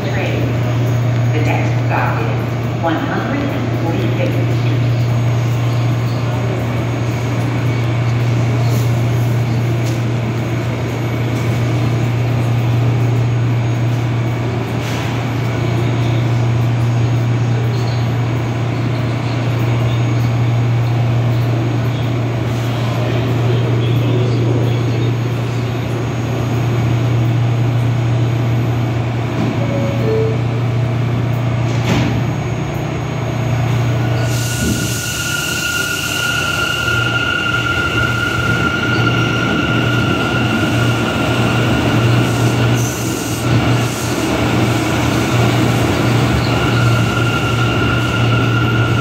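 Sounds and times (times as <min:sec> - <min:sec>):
train equipment humming: 0:00.0 - 0:49.0.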